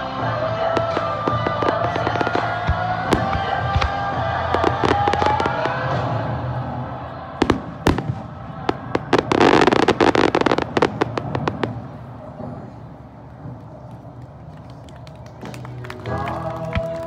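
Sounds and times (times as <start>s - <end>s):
fireworks crackling: 0.0s - 6.5s, 7.4s - 17.0s
fireworks bursting with bangs: 0.3s - 14.2s.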